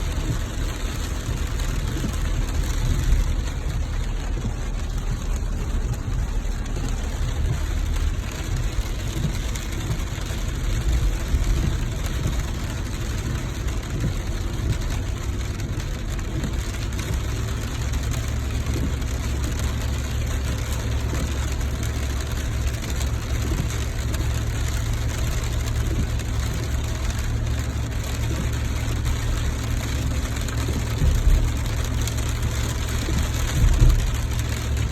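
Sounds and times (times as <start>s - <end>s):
car engine and road rumble: 0.0s - 34.9s
steady rain: 0.0s - 34.9s.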